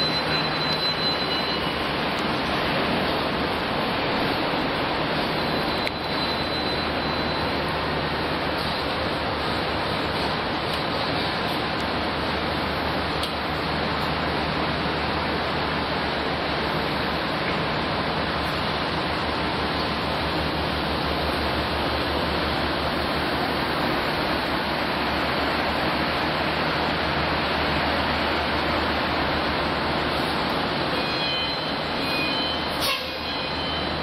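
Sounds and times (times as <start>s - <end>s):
city ambience rushing noise: 0.0s - 34.0s.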